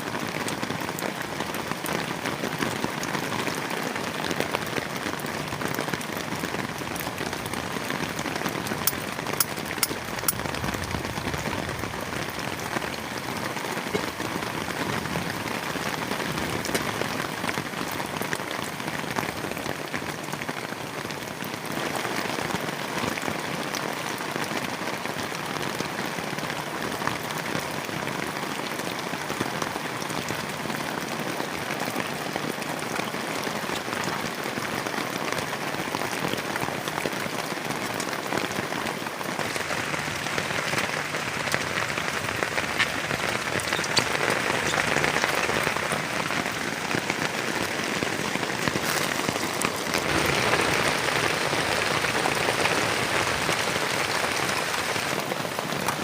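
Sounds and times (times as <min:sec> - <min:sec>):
heavy rain on plastic tarp: 0:00.0 - 0:56.0.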